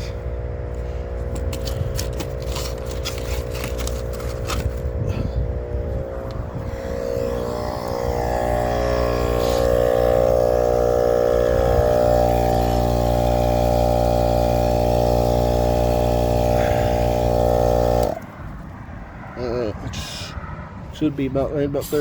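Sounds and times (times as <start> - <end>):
air compressor running: 0.0 - 18.6.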